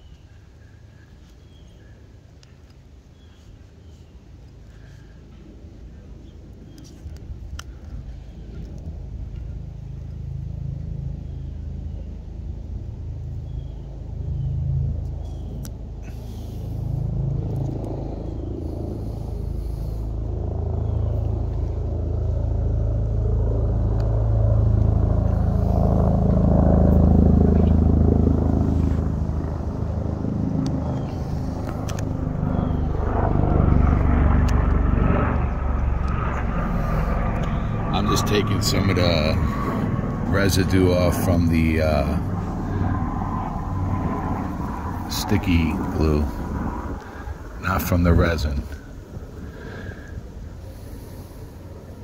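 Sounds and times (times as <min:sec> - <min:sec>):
traffic engine rumble: 0:02.1 - 0:52.0.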